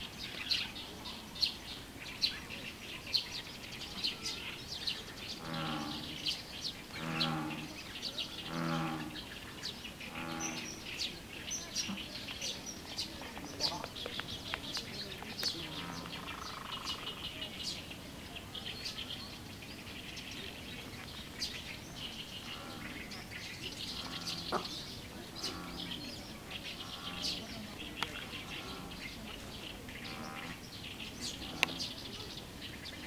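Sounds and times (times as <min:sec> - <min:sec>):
faint low bird calls: 0:00.0 - 0:33.0
small birds chirping: 0:00.0 - 0:33.0.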